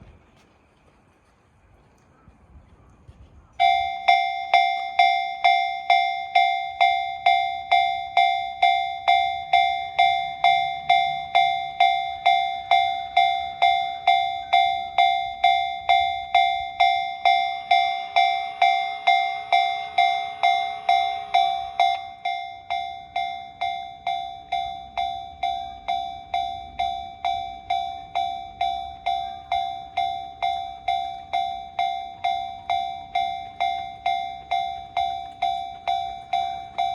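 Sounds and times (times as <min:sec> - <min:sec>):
level-crossing warning bell dinging: 0:03.6 - 0:36.9.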